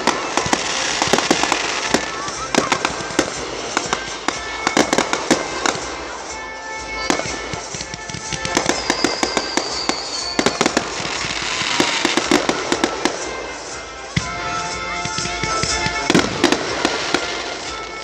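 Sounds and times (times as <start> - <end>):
firework whistling: 0.0 - 18.0
fireworks popping and crackling: 0.0 - 18.0.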